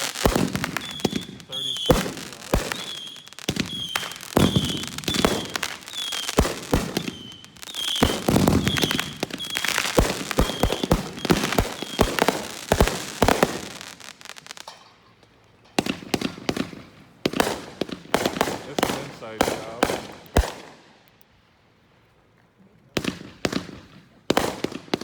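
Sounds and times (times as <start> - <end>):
fireworks bangs and crackles: 0.0 - 14.8, 15.7 - 21.0, 23.0 - 25.0.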